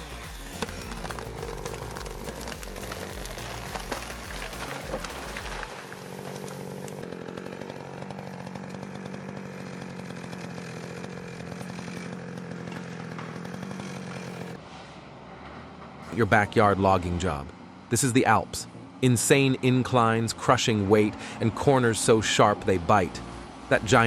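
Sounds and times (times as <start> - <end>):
chainsaw running: 0.0 - 14.6, 16.0 - 24.0.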